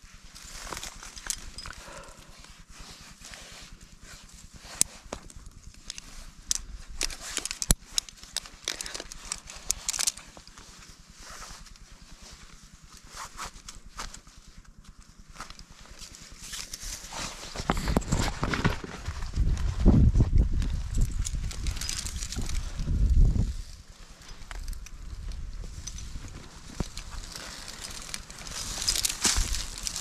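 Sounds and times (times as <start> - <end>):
climbing gear clicking: 0.0 - 30.0
rope and clothing rustling: 0.0 - 30.0.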